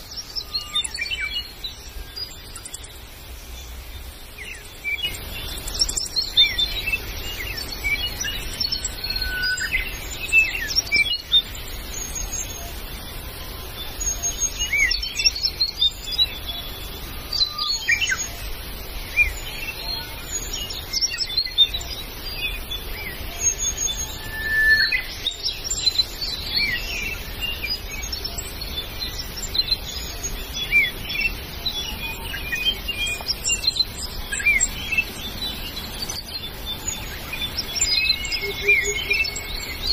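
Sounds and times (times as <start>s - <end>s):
forest birds calling: 0.0s - 39.9s.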